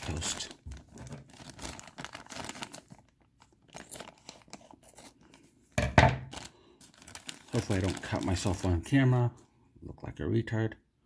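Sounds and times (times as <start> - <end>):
plastic bags crinkling: 0.0 - 9.1.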